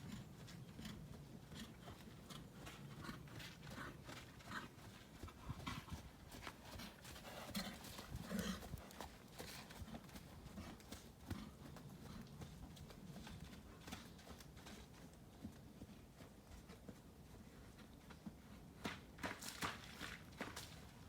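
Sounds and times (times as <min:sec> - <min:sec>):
horse hoofbeats: 0:00.0 - 0:21.0.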